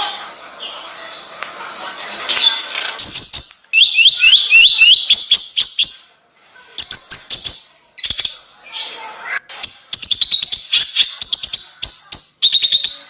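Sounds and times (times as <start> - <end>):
bird chirping and singing: 0.6 - 6.2, 6.8 - 13.0.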